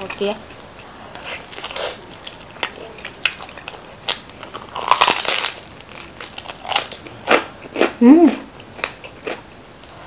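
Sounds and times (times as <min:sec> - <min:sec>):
crunching pizza crust being chewed: 0:00.0 - 0:10.0.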